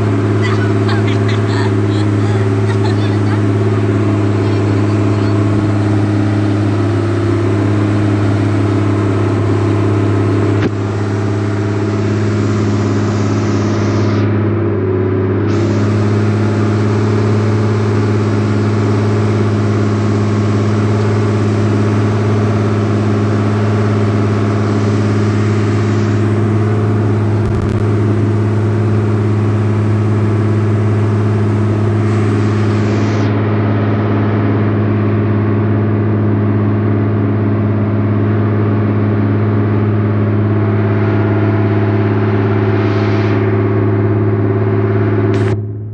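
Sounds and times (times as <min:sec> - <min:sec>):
boat engine droning: 0:00.0 - 0:45.9.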